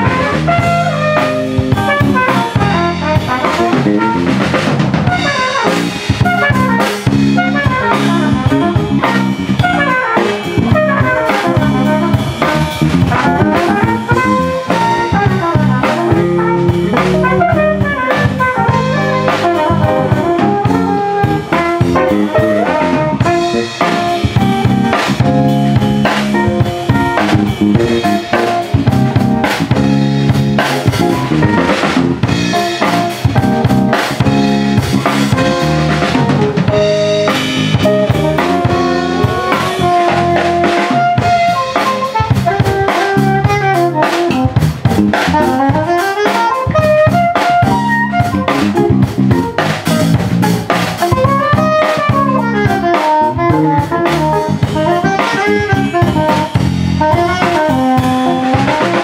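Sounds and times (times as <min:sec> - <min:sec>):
soprano saxophone melody: 0:00.0 - 0:04.5, 0:05.1 - 0:29.5, 0:35.3 - 0:44.6, 0:45.2 - 0:49.0, 0:51.0 - 0:59.0
drum kit beat: 0:00.0 - 0:59.0
jazz-funk band playing: 0:00.0 - 0:59.0.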